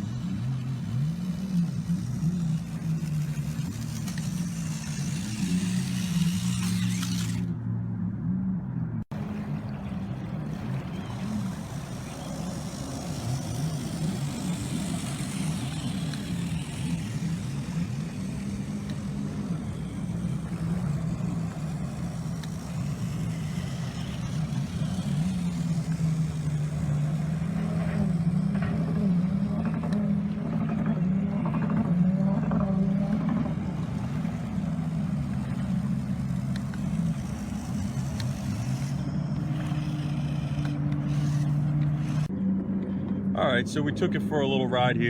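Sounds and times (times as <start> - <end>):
small electric motor whine: 0.0 - 8.4, 9.1 - 43.2.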